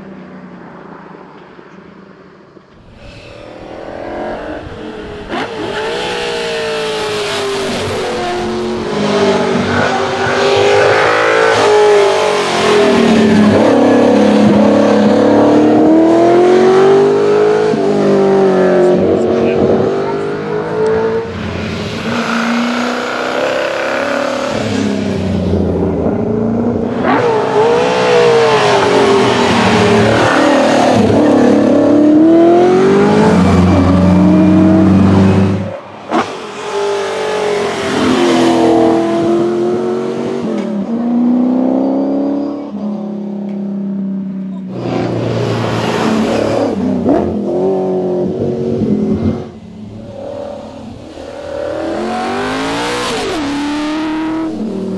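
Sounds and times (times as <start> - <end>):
race car engine at full throttle: 0.0 - 54.9.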